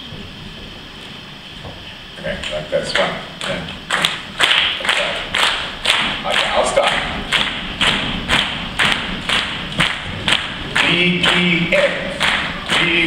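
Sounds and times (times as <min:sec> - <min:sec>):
voices chanting: 0:02.3 - 0:13.0
group clapping hands: 0:02.4 - 0:13.0.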